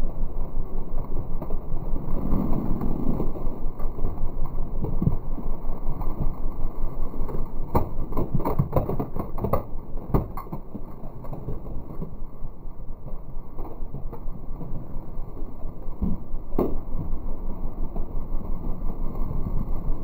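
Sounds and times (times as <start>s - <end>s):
tire rolling over snow: 0.1s - 20.0s.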